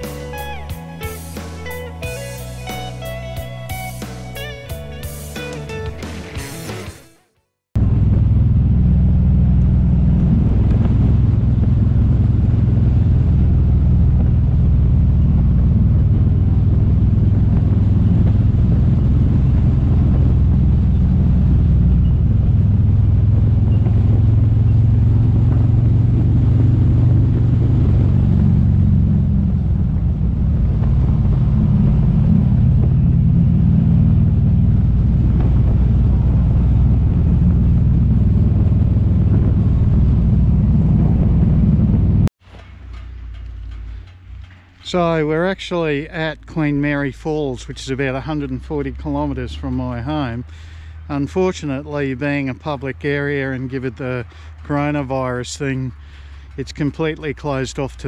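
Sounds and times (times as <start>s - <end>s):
road and wind noise: 0.0s - 7.0s, 7.8s - 58.0s
motorcycle engine droning: 0.0s - 58.0s.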